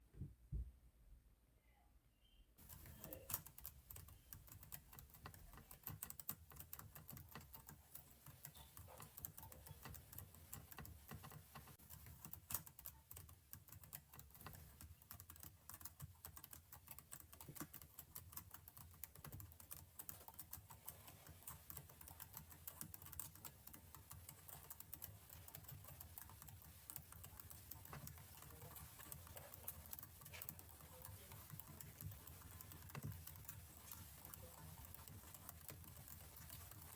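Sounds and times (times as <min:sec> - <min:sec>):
keyboard typing: 0:02.6 - 0:36.9.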